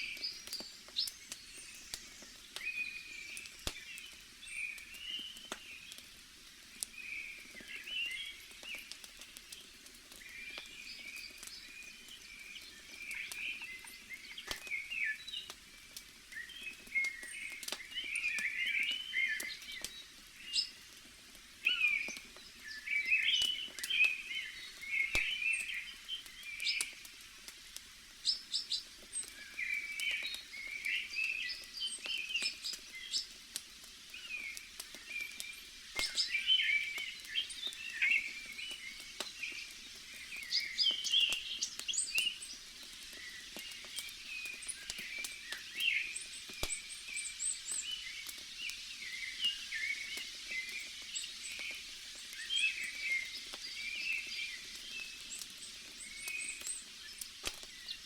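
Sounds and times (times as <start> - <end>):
birds chirping and warbling: 0.0 - 6.1, 6.8 - 27.2, 28.1 - 58.0
campfire crackling and popping: 0.0 - 58.0.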